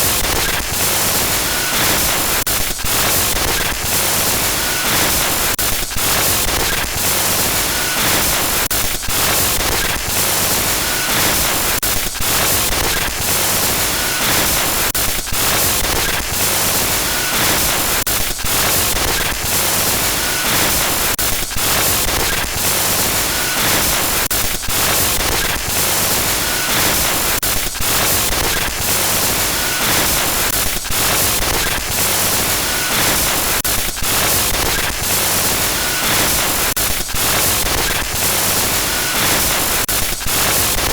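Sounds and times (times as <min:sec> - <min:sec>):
harsh glitchy static hiss: 0:00.0 - 0:40.9.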